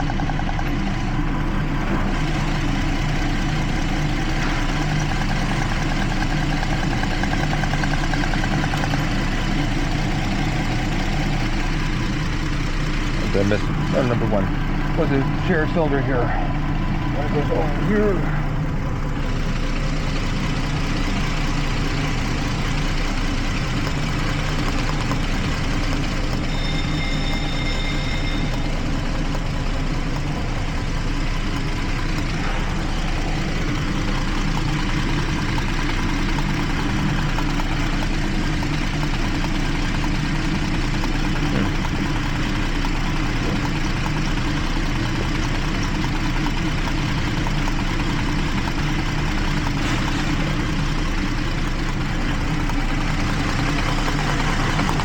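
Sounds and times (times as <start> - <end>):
engine idling with misfire: 0.0 - 55.0.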